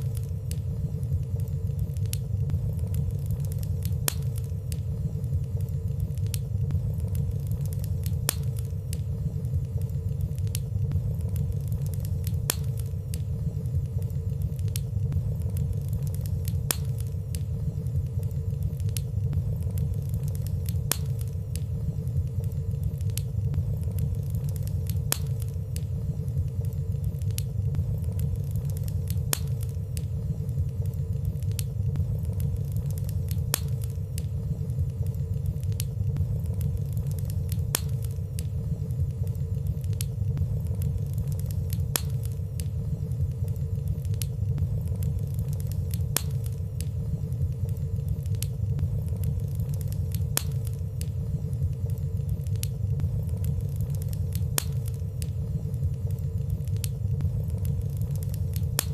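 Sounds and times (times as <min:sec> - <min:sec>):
fire flames rumbling: 0:00.0 - 0:58.9
soft fire crackles: 0:00.0 - 0:58.9.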